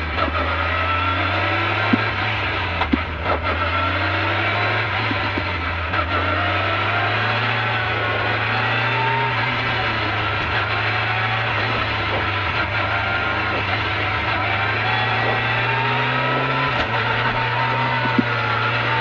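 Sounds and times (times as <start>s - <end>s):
car engine revving: 0.0s - 19.0s
road noise: 0.0s - 19.0s.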